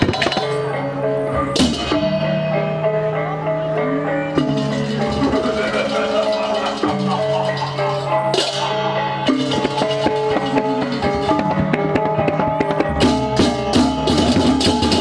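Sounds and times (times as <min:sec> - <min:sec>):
drums: 0:00.0 - 0:15.0
gamelan metal keys and gongs: 0:00.0 - 0:15.0
cymbals clashing: 0:01.5 - 0:03.0, 0:04.3 - 0:15.0.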